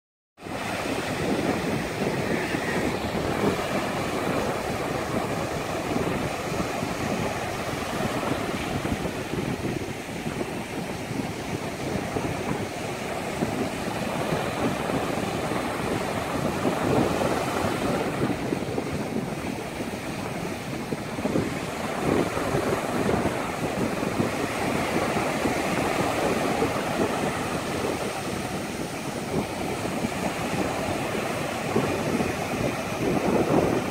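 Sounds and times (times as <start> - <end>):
small waves breaking on sand: 0.4 - 33.9
wind on microphone: 0.4 - 33.9.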